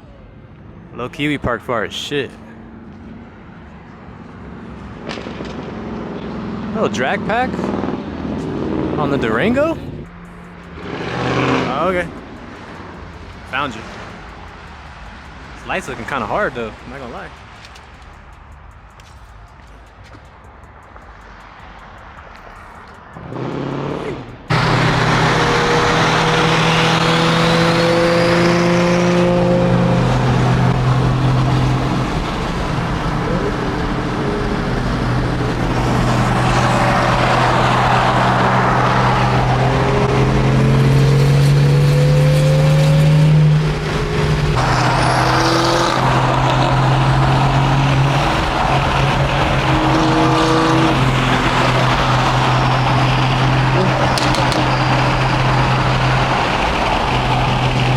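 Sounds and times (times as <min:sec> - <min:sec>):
car engine running loudly: 0:04.3 - 0:17.5, 0:22.0 - 0:57.9.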